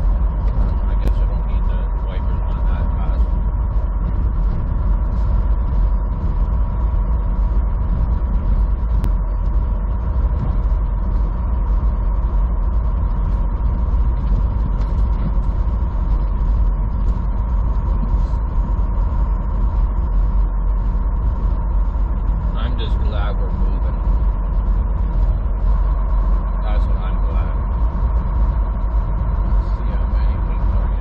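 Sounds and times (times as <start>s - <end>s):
steady hum: 0.0s - 31.0s
truck engine drone from cab: 0.0s - 31.0s.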